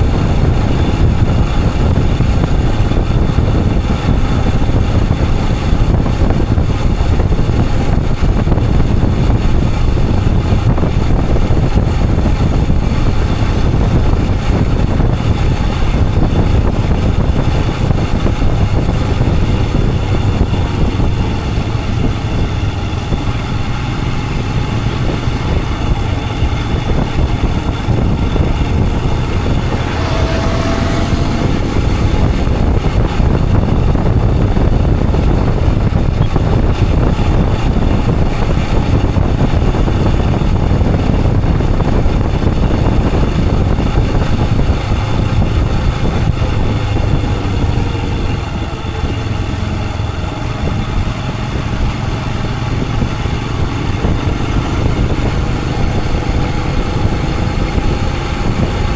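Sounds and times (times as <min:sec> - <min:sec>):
motorcycle engine running: 0:00.0 - 0:58.9
road and wind noise: 0:00.0 - 0:58.9.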